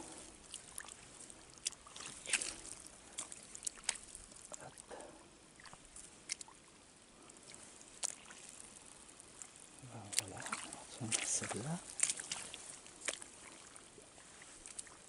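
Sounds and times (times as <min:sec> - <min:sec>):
sharp ticks and splashes: 0:00.0 - 0:15.0
water trickling in channel: 0:00.0 - 0:15.0.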